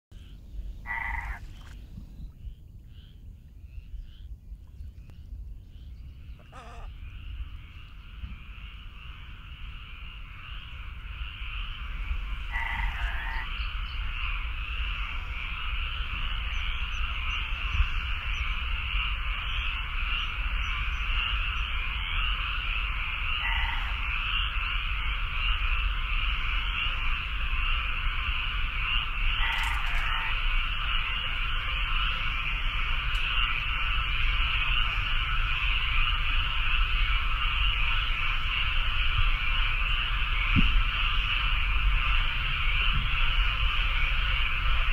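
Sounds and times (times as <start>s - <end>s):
frogs calling: 0.2s - 44.9s.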